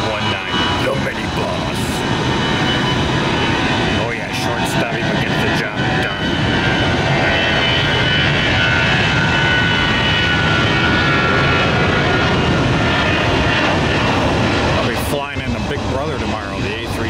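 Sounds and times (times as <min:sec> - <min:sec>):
jet airliner taking off: 0:00.0 - 0:17.0.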